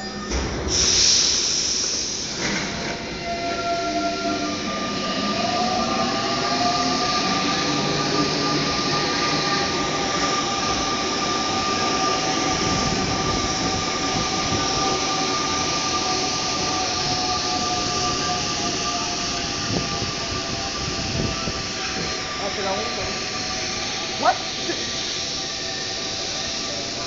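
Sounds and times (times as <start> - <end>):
train electrical whine: 0.0 - 27.0
train rumble: 0.0 - 27.0.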